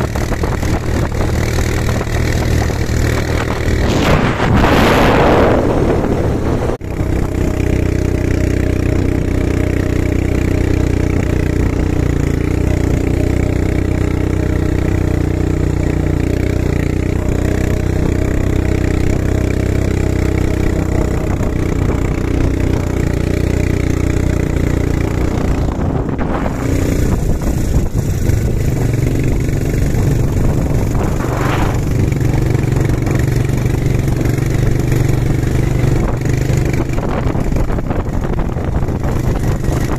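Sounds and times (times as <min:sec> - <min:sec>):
quad bike engine running: 0:00.0 - 0:39.9
wind noise on microphone: 0:00.0 - 0:39.9.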